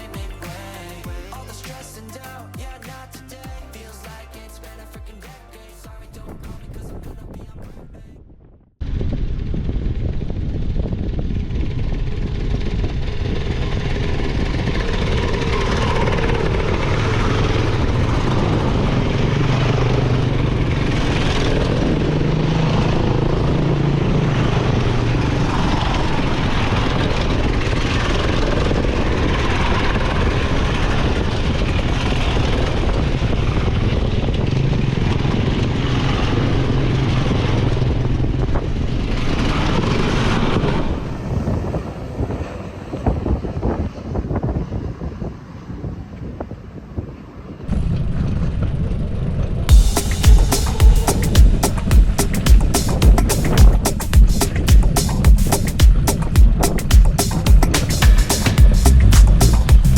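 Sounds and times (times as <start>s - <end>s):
wind on microphone: 5.9s - 59.9s.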